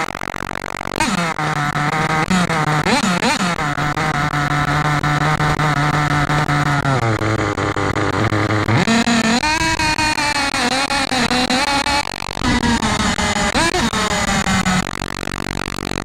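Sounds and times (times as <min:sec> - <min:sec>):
nitro engine revving: 0:01.0 - 0:16.0.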